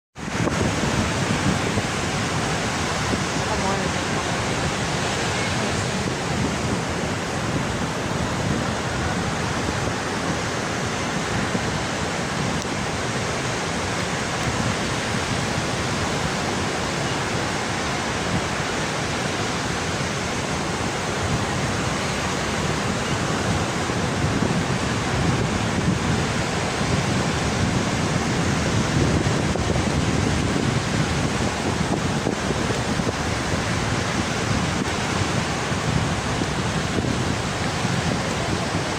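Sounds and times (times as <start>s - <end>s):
sea waves washing onto beach: 0.2s - 38.9s.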